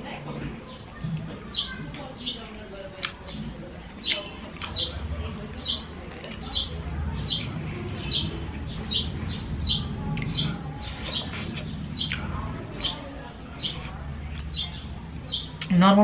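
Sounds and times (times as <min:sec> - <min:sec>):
low steady hum: 0:00.0 - 0:16.0
bird chirping: 0:00.2 - 0:16.0.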